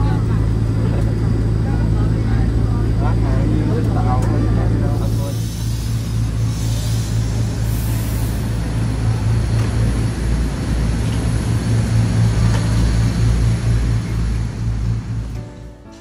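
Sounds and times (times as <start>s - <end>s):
diesel bus engine idling: 0.0s - 15.9s.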